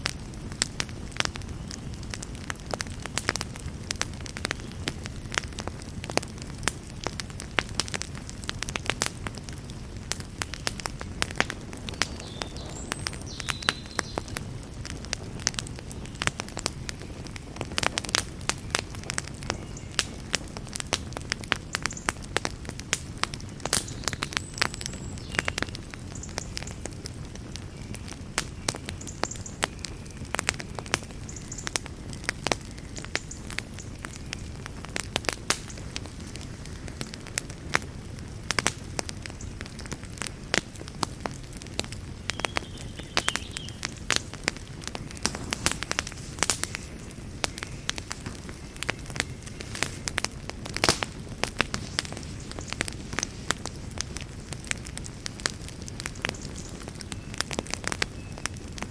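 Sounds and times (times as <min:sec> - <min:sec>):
campfire crackling: 0:00.0 - 0:58.9
fire popping and snapping: 0:00.0 - 0:58.9.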